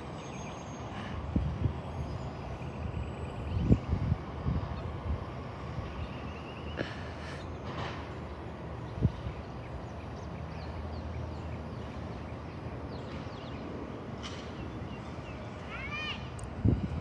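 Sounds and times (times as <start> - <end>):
distant diesel engine rumble: 0.0 - 17.0.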